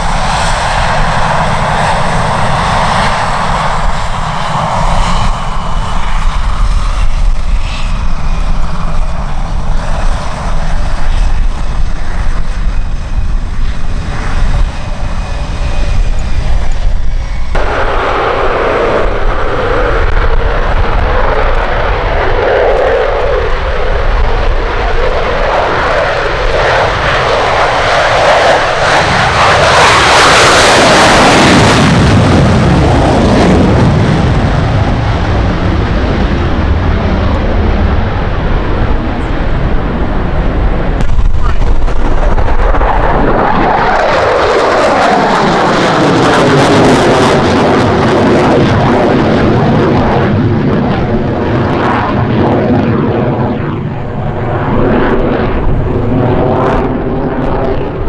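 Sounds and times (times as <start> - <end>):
jet afterburner roar: 0.0 - 58.0
jet engines whining: 0.0 - 58.0.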